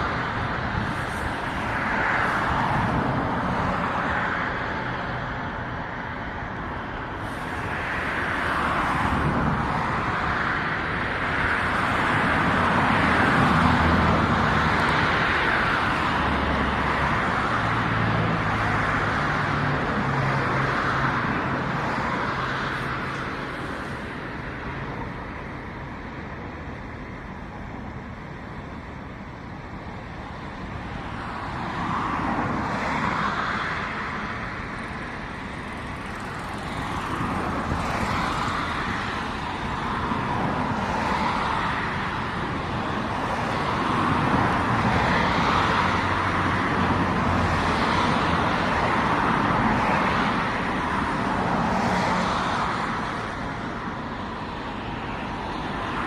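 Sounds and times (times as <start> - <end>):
vehicles rushing past: 0.0 - 56.0.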